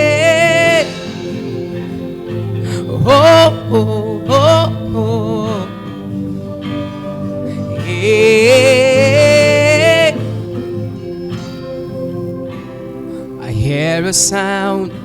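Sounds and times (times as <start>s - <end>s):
instrumental backing with guitar: 0.0s - 15.0s
person singing with vibrato: 0.0s - 15.0s.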